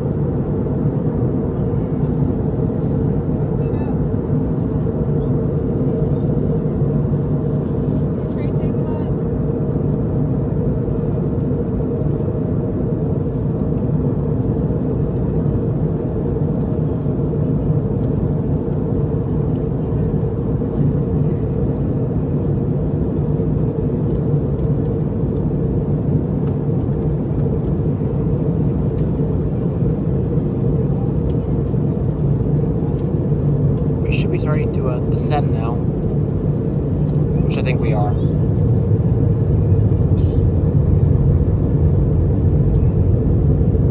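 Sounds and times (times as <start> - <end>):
airliner cabin drone: 0.0 - 43.9.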